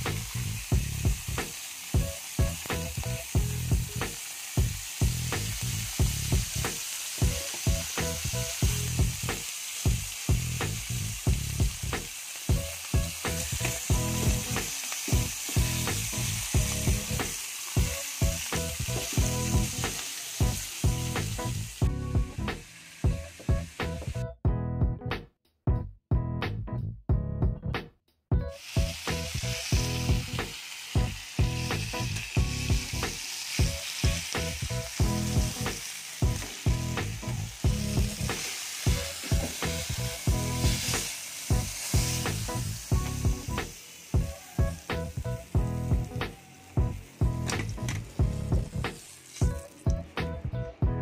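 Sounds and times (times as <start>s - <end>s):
oil sizzling: 0.0s - 24.2s, 28.6s - 50.4s
background music with beat: 0.0s - 51.0s.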